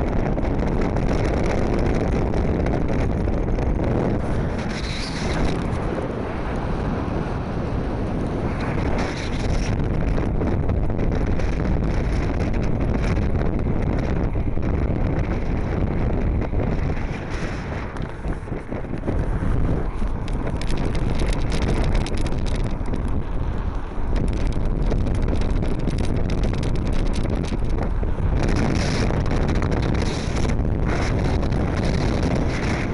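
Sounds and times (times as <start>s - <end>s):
wind rumbling on microphone: 0.0s - 32.9s.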